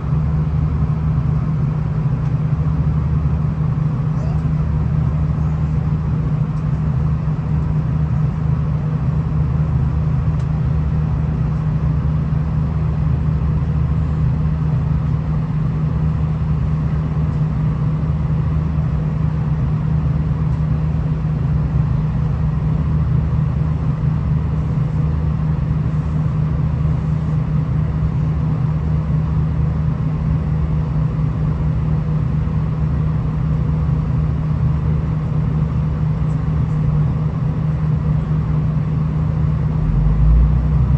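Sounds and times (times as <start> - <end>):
diesel railcar engine drone: 0.0 - 40.9
wheels rumbling on track: 0.0 - 40.9.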